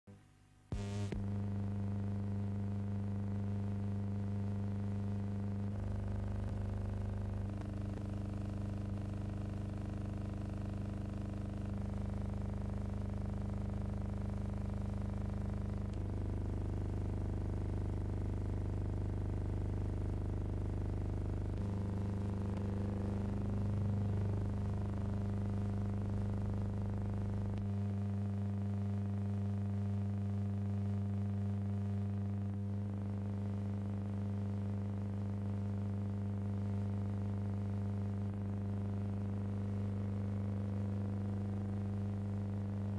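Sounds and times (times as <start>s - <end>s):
electrical hum: 0.1s - 42.9s.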